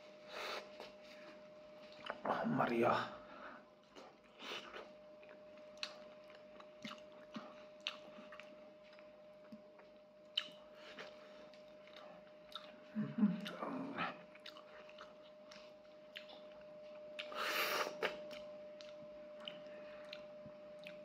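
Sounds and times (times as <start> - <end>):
faint steady hum: 0.0 - 21.0
chewing and mouth smacks: 4.0 - 21.0.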